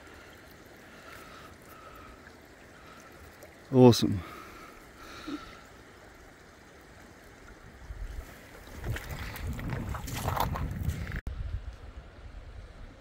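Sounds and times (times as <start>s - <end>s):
river water running over stones: 0.0s - 11.2s.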